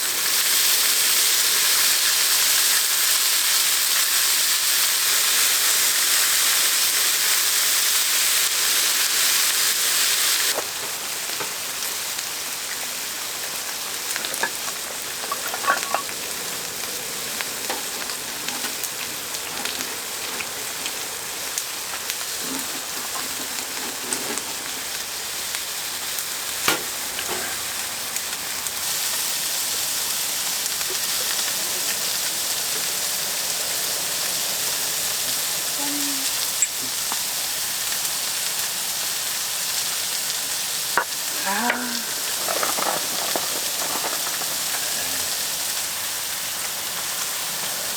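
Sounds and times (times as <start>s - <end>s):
food sizzling in a pan: 0.0s - 47.9s.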